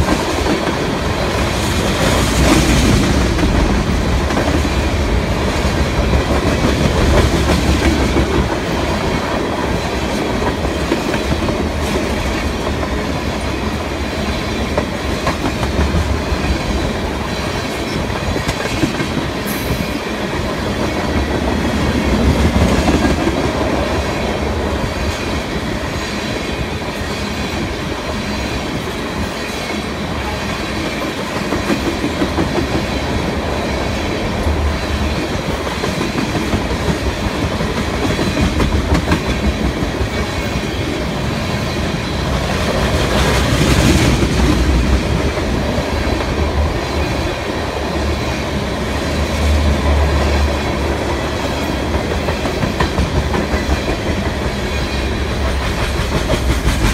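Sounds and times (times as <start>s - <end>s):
steel wheels on rail: 0.0s - 56.9s.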